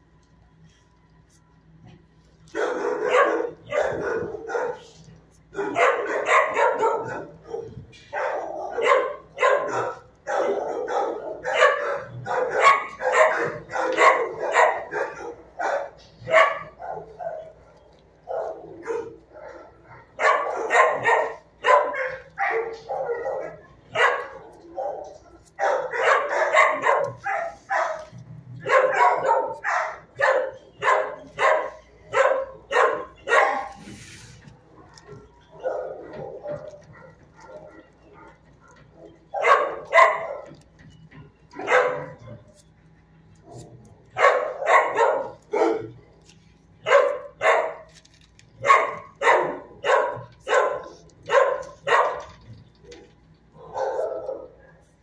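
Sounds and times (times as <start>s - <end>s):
dogs barking: 2.5s - 55.0s.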